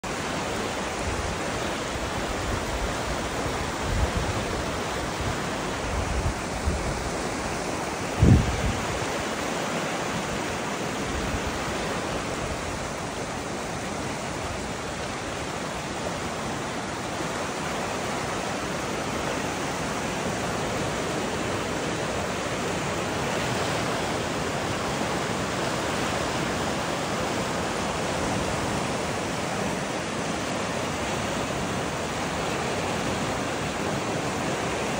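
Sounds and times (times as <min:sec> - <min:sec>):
fast water rushing: 0:00.0 - 0:34.9.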